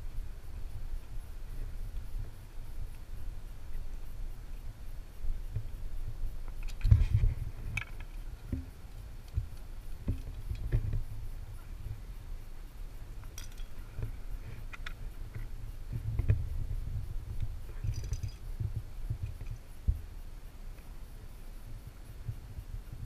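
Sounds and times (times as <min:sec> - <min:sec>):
low continuous rumble: 0:00.0 - 0:23.0.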